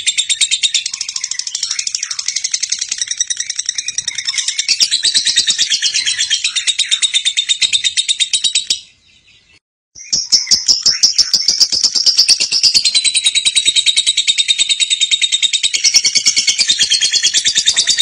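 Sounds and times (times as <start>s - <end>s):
lovebird chattering trill: 0.0s - 8.9s, 10.0s - 18.0s.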